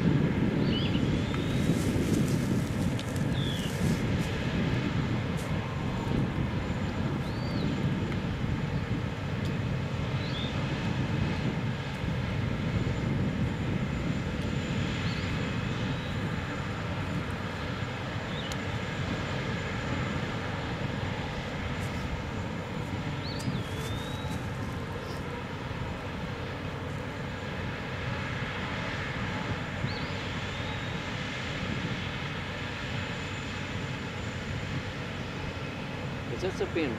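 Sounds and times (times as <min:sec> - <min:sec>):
heavy machinery low rumble: 0:00.0 - 0:36.9.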